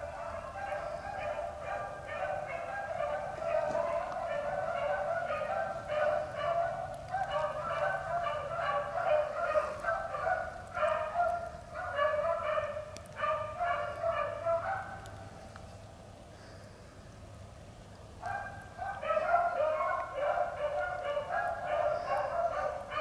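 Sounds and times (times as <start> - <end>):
pack of hounds baying: 0.0 - 15.2, 18.2 - 23.0.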